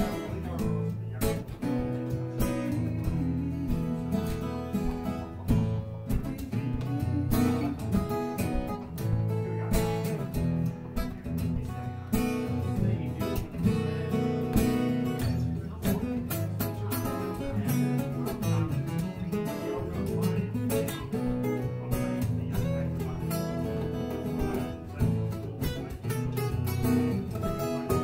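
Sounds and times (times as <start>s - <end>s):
acoustic blues guitar: 0.0s - 28.0s.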